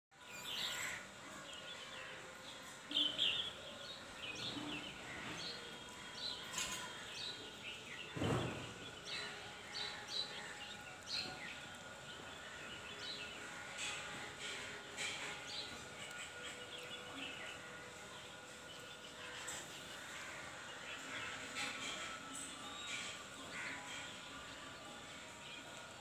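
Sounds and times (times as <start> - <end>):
small birds chirping: 0.1 - 26.0.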